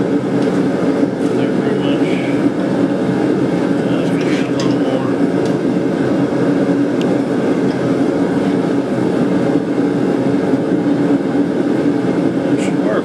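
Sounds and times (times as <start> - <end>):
forge rushing roar: 0.0 - 13.0.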